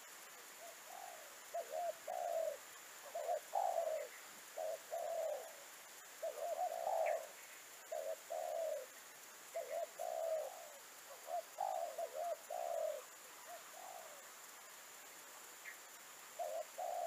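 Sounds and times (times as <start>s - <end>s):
dove cooing: 0.6s - 14.3s, 16.4s - 17.0s.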